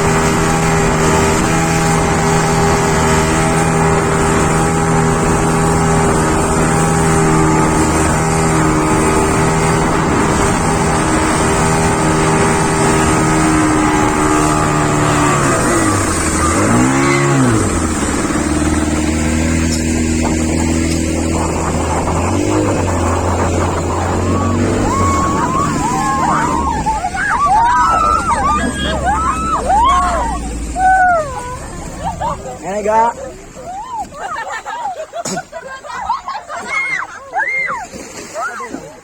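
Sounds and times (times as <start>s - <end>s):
motorboat engine running: 0.0s - 39.0s
rushing wind and water: 0.0s - 39.0s.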